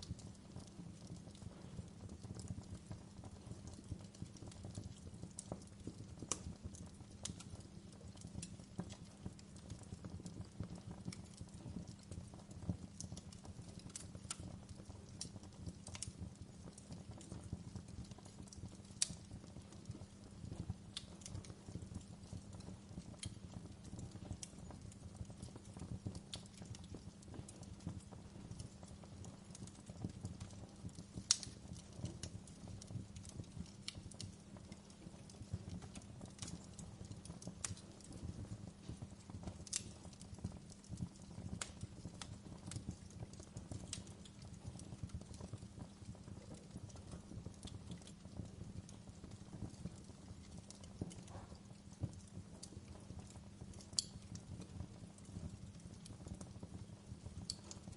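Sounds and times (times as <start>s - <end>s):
fire crackles and pops: 0.0s - 57.9s
low rustle of flames: 0.0s - 57.9s.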